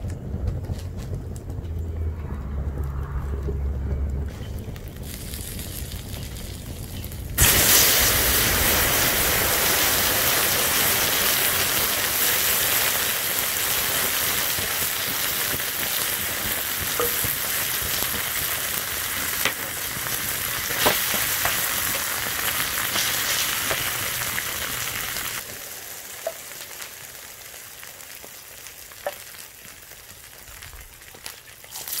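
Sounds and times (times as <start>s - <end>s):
sharp crackles: 0.0s - 32.0s
burning toaster hissing: 4.4s - 30.8s.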